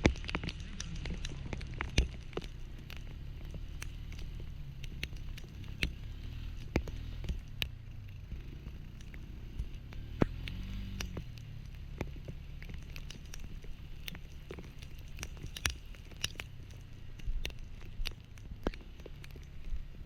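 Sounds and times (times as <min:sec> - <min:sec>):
low steady rumble: 0:00.0 - 0:20.0
rain ticking and pattering: 0:00.0 - 0:20.0.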